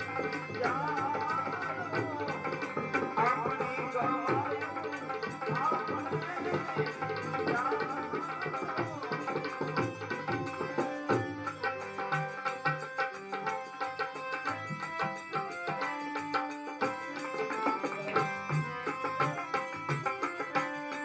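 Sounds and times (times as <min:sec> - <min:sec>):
tabla drumming: 0:00.0 - 0:21.0.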